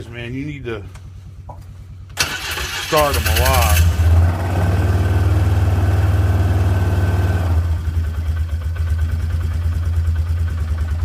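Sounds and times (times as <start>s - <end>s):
quad engine idling: 0.0s - 11.0s.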